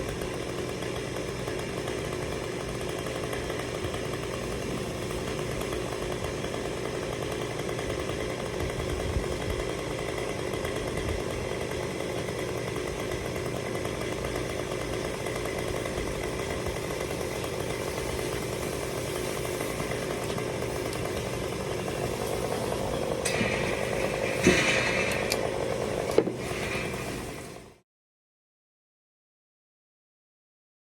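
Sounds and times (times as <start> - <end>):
chainsaw engine running: 0.0 - 27.8.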